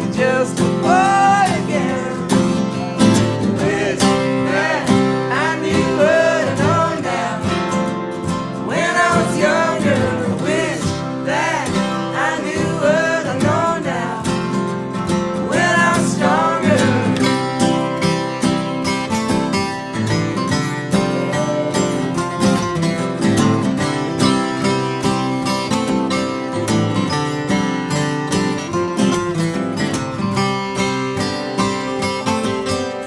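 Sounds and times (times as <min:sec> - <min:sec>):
acoustic guitar: 0:00.0 - 0:33.0
country song: 0:00.0 - 0:33.0.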